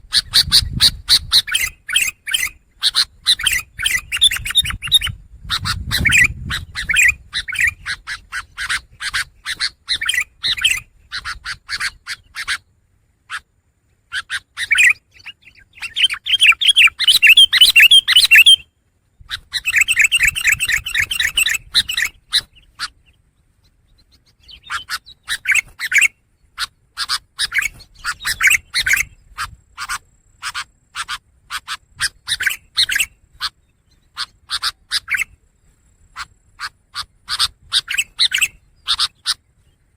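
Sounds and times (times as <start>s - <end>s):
shrike scratchy chattering song: 0.0s - 12.7s, 14.1s - 18.6s, 19.2s - 35.4s, 36.0s - 39.8s.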